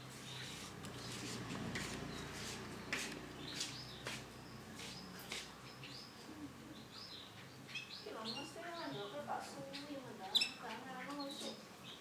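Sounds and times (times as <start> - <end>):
canary chirping: 0.2 - 12.0.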